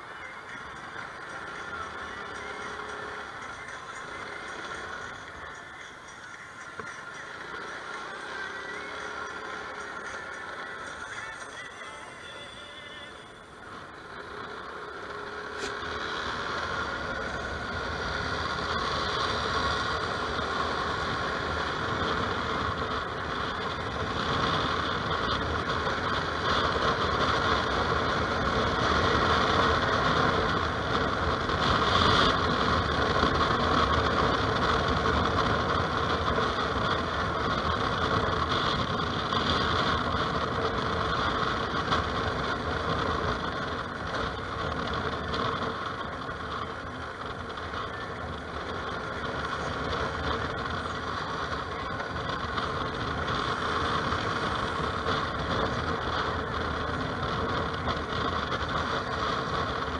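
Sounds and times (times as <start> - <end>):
road and wind noise: 0.0 - 59.9
scooter engine running: 0.0 - 59.9.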